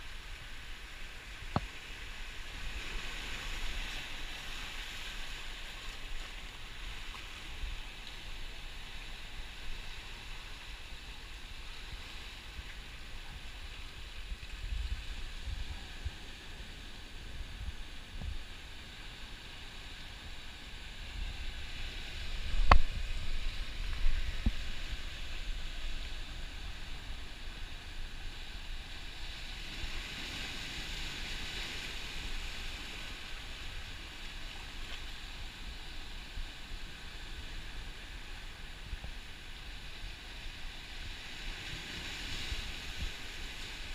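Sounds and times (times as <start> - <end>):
ocean surf hissing: 0.0 - 43.9.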